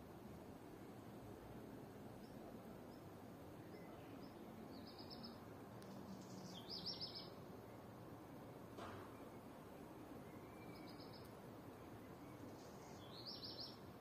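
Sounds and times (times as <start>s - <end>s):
outdoor background hiss: 0.0s - 14.0s
songbird chirping: 0.1s - 14.0s.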